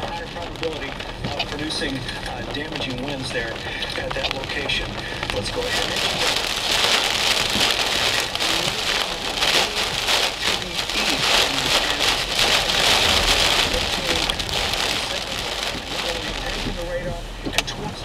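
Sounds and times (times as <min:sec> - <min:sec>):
heavy rain on car windshield: 0:00.0 - 0:18.0.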